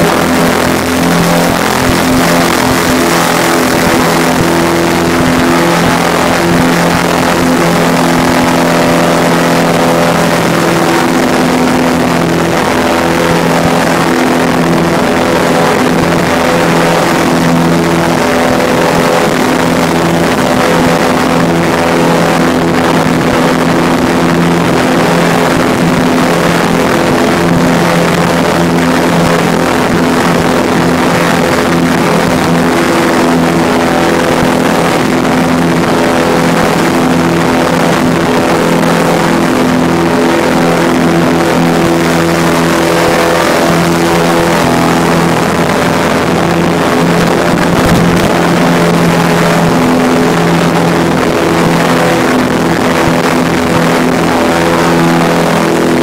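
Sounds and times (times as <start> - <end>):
airboat engine and propeller drone: 0.0 - 56.0.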